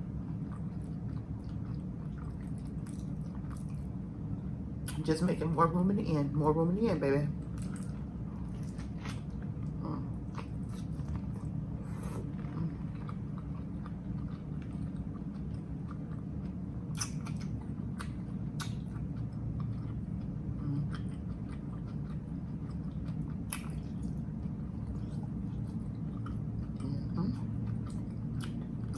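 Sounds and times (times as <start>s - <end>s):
chewing a sandwich: 0.0s - 4.1s, 7.4s - 28.9s
steady low hum: 0.0s - 28.9s.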